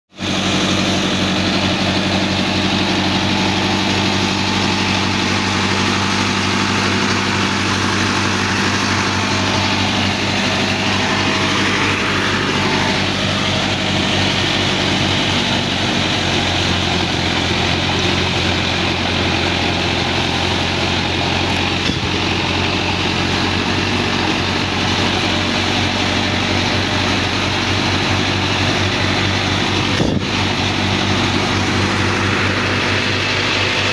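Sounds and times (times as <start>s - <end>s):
rotary mulcher shredding plants: 0.1s - 33.9s
tractor diesel engine under load: 0.1s - 33.9s.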